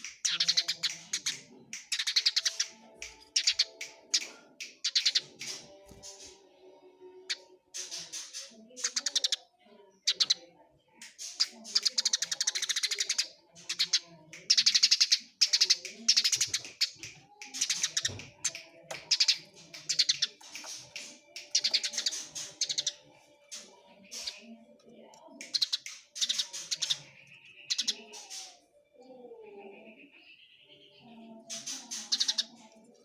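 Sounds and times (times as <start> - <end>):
sparrows chattering: 0.0 - 33.0.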